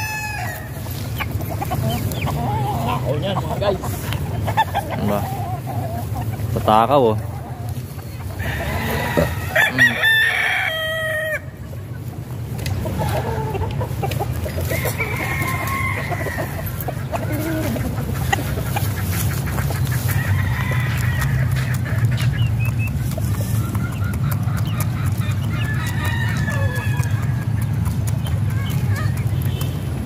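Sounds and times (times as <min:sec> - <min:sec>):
roosters crowing: 0:00.0 - 0:22.5, 0:23.4 - 0:27.6.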